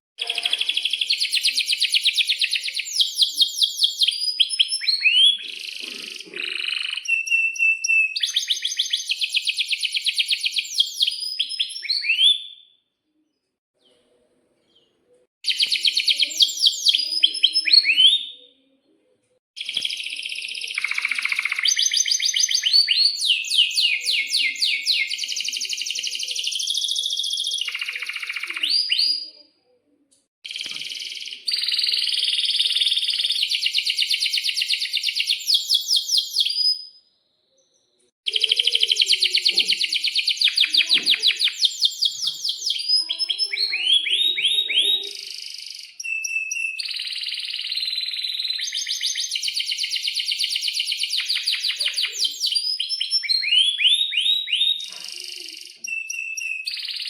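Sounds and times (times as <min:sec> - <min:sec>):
canary singing trills: 0:00.2 - 0:12.8, 0:14.8 - 0:18.8, 0:19.6 - 0:29.6, 0:30.4 - 0:57.0.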